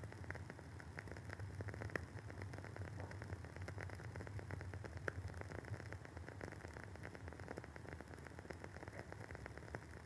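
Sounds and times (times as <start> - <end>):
low steady hum: 0.0 - 10.0
wooden candle wick crackling: 0.0 - 10.0.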